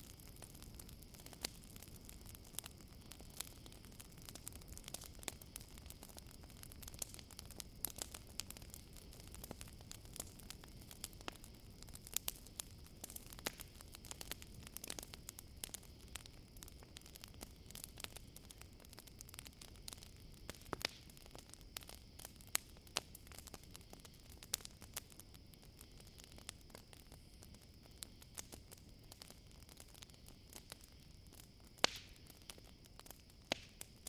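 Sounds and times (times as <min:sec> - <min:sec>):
campfire crackling and popping: 0:00.0 - 0:34.0
crickets trilling: 0:00.0 - 0:34.0.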